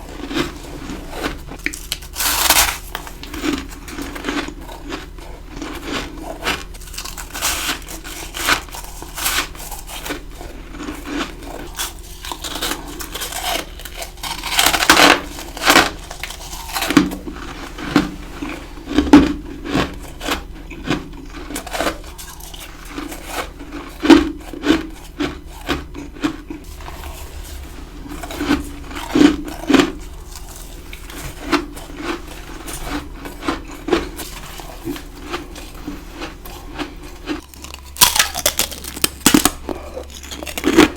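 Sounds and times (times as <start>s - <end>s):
ice being crunched and chewed: 0.0s - 40.9s.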